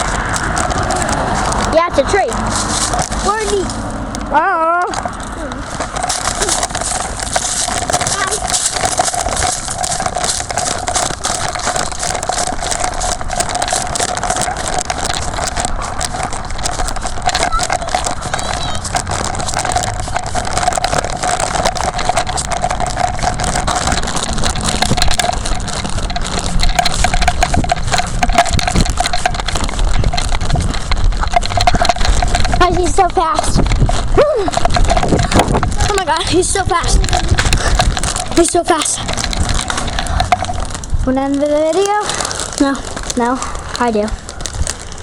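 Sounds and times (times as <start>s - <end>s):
footsteps crunching dry leaves: 0.0s - 4.1s, 4.7s - 45.0s.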